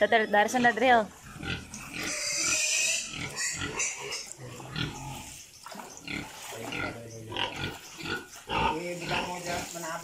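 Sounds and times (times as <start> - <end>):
pig grunting: 0.0 - 5.3, 6.0 - 9.7.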